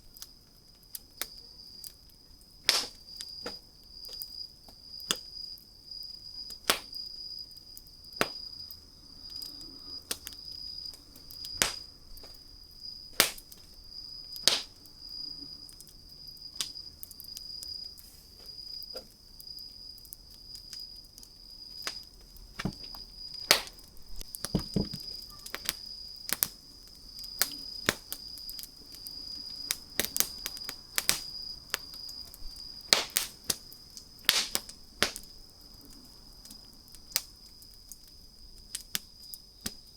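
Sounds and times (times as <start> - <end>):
campfire crackling and popping: 0.1 - 15.2, 19.1 - 39.9.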